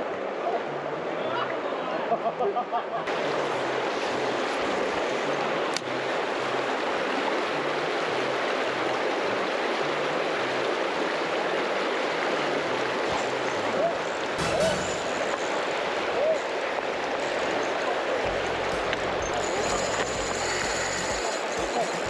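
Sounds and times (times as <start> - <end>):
river current rushing and splashing: 3.1 - 22.0.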